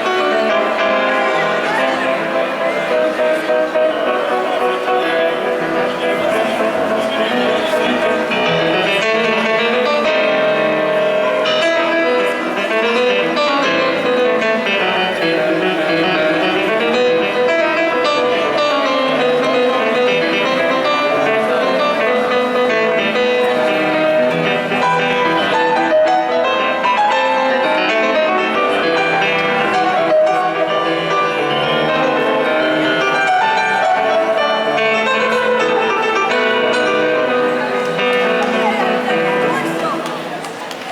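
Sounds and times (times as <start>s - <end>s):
piano and guitar melody: 0.0s - 40.9s.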